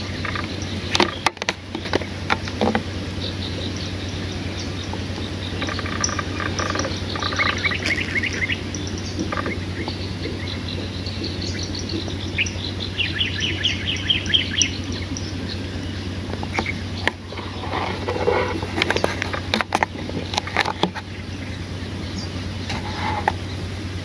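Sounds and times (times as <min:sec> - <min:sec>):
bird chirping: 0:00.0 - 0:24.0
steady low hum: 0:00.0 - 0:24.0.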